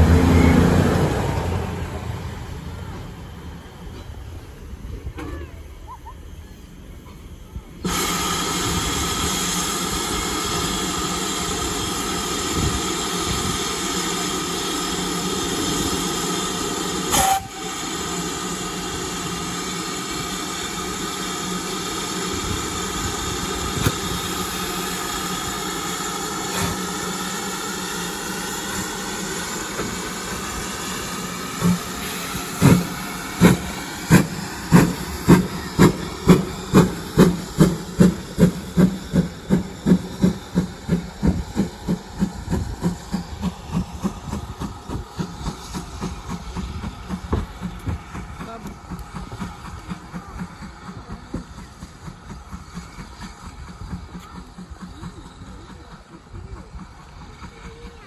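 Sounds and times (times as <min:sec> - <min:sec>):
loud steam hiss: 0:00.0 - 0:58.0
locomotive exhaust beats: 0:06.5 - 0:58.0.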